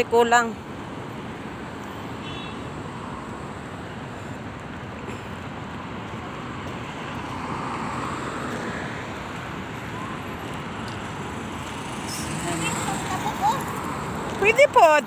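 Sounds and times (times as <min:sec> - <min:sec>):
road traffic: 0:00.0 - 0:15.0
vehicle passing: 0:02.7 - 0:15.0.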